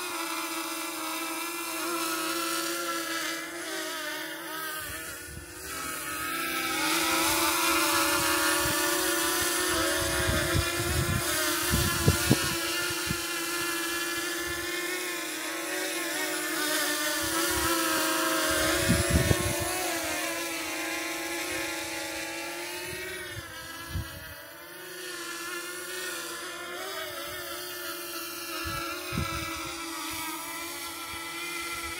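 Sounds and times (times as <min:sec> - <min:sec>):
drone propellers whirring: 0:00.0 - 0:31.9.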